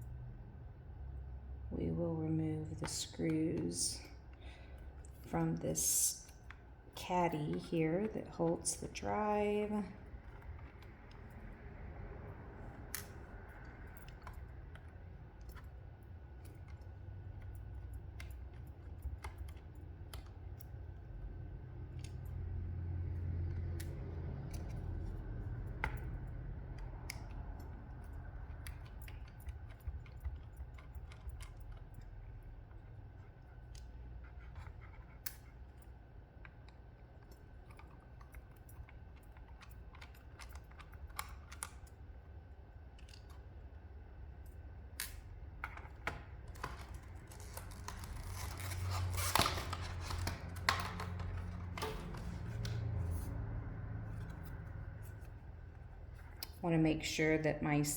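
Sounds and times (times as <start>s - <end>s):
low rumble of handling: 0.0s - 56.9s.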